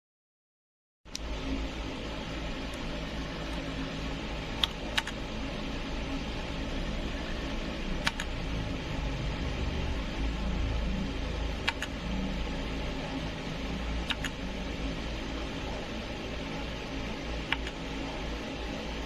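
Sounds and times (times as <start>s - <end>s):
low hum and hiss: 1.1s - 19.0s.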